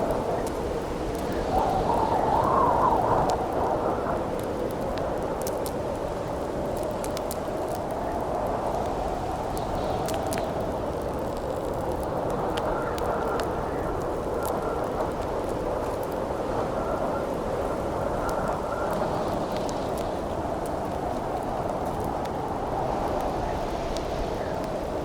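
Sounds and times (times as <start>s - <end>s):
campfire crackling: 0.0s - 25.0s
howling wind: 0.0s - 25.0s.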